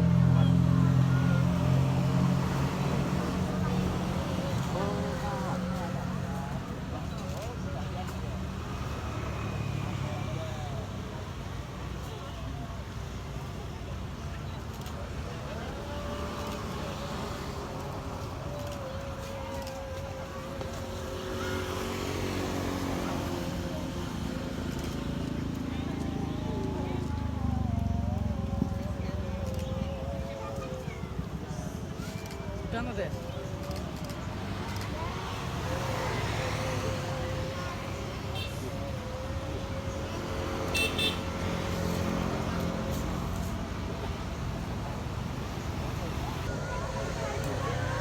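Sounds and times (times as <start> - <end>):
engine rumbling with whine: 0.0 - 48.0.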